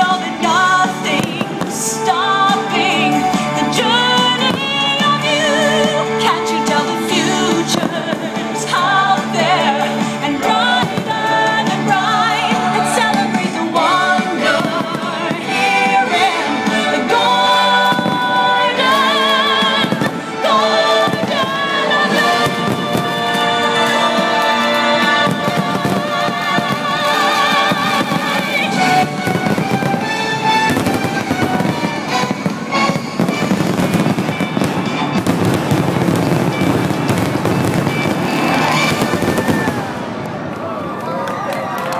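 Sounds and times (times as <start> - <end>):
song with vibrato vocals: 0.0 - 40.2
fireworks bangs: 0.0 - 40.6
fireworks crackling: 0.0 - 40.7
music playing: 0.0 - 40.8.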